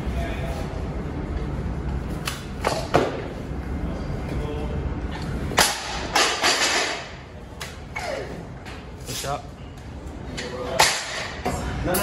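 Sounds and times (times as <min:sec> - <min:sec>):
low gym hum: 0:00.0 - 0:12.0.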